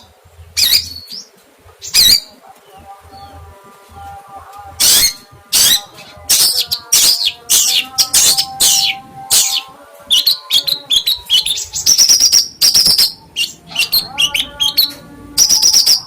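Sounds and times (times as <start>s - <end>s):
songbird calling: 0.0s - 3.4s, 4.8s - 16.0s.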